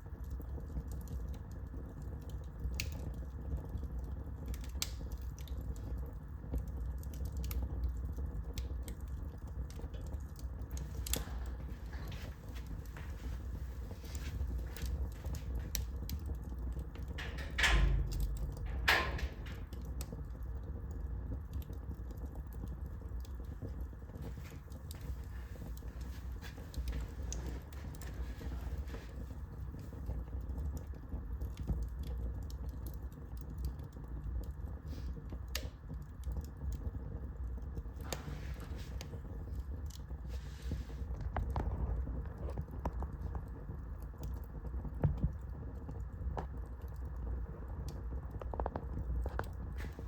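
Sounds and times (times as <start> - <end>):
fire crackling in fireplace: 0.0 - 50.0.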